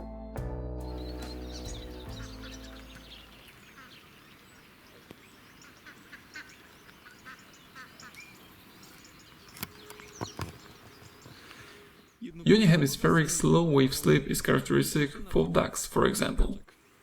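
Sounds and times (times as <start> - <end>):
ducks calling: 0.9 - 14.6.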